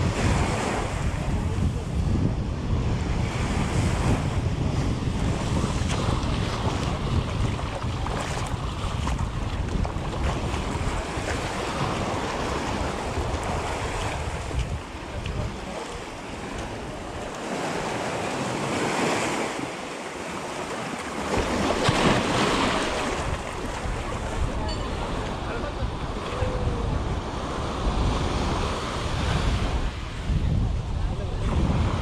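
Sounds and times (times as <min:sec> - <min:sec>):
wind buffeting microphone: 0:00.0 - 0:19.7, 0:21.1 - 0:32.0
small waves on sandy shore: 0:00.0 - 0:32.0.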